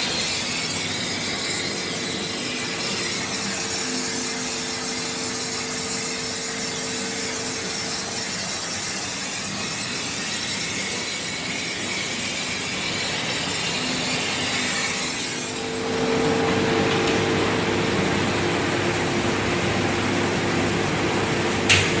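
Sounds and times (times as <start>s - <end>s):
machine hiss and hum: 0.0s - 22.0s.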